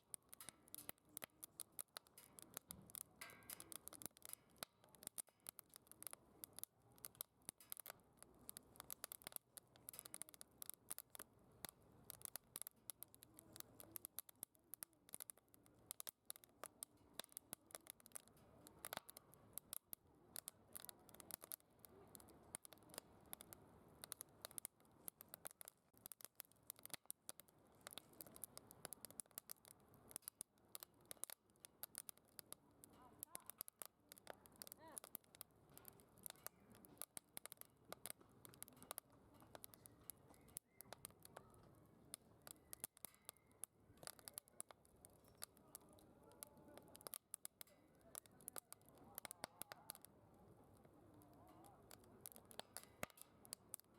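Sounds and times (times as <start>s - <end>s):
firewood crackling and popping: 0.0s - 53.9s.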